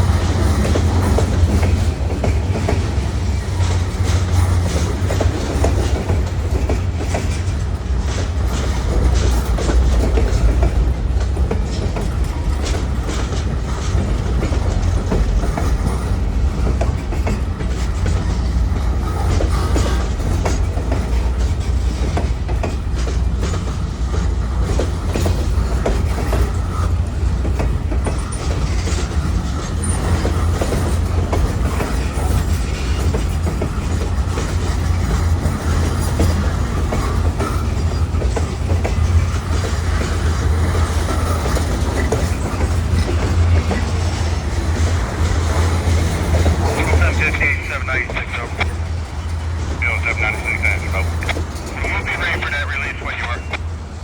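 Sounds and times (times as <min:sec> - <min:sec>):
freight train wheels clacking on rails: 0:00.0 - 0:54.0
train low rumble: 0:00.0 - 0:54.0.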